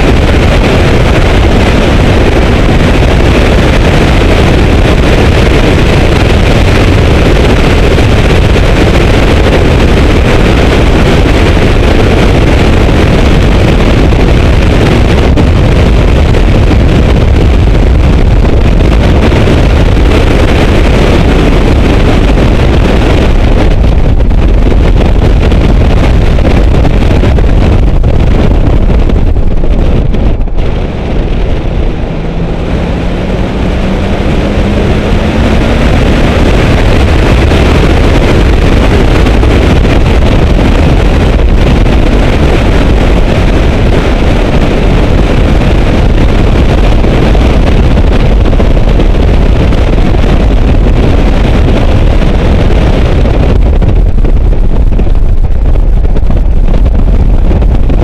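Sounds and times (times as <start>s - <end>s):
car engine: 0.0s - 49.6s
heavy wind buffeting camera: 0.0s - 58.0s
road noise: 0.0s - 58.0s.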